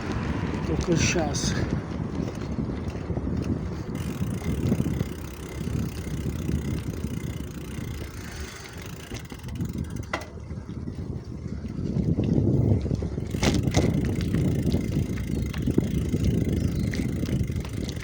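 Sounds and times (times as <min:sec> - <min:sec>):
tyres rumbling on road: 0:00.0 - 0:18.0
wind buffeting microphone: 0:00.0 - 0:18.0.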